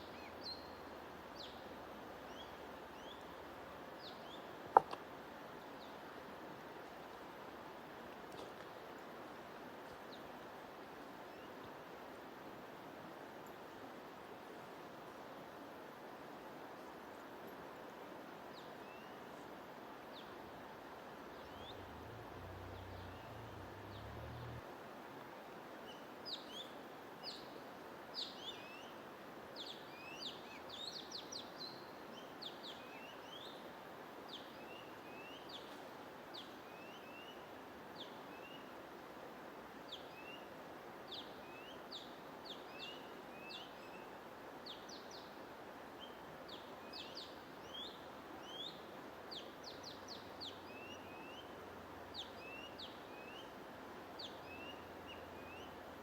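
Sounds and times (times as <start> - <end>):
songbirds chirping: 0.0 - 10.4, 20.0 - 24.7, 25.8 - 56.0
steady hiss of running water: 0.0 - 56.0.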